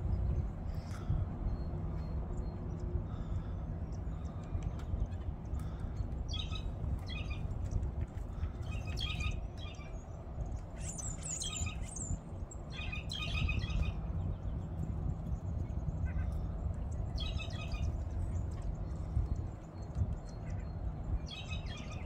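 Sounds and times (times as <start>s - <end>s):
low background rumble: 0.0s - 22.0s
wild birds chirping: 0.3s - 22.0s.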